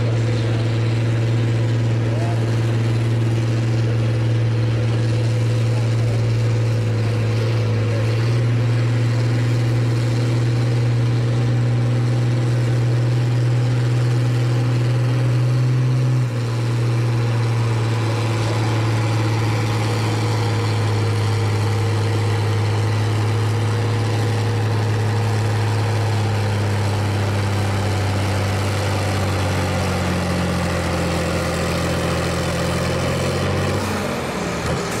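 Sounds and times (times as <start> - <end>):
diesel tractor engine straining: 0.0 - 35.0.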